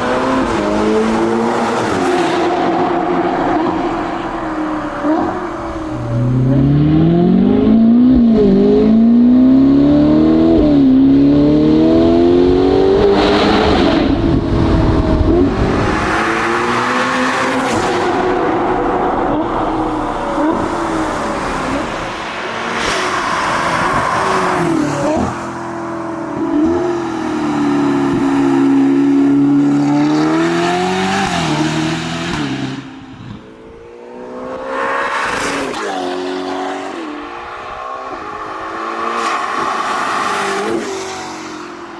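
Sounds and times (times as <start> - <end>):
sports car engine accelerating: 0.0 - 40.8.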